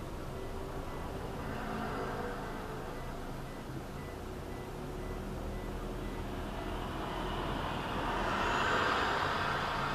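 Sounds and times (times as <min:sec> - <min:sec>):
car road and engine noise: 0:00.0 - 0:09.9.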